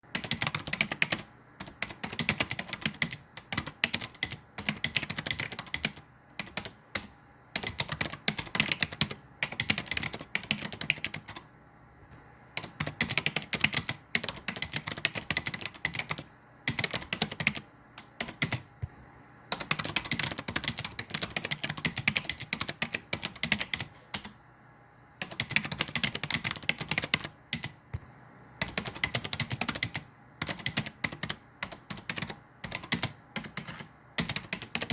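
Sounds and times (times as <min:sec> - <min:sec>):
typing on computer keyboard: 0:00.1 - 0:11.4, 0:12.5 - 0:18.7, 0:19.5 - 0:24.4, 0:25.2 - 0:27.8, 0:28.6 - 0:34.9.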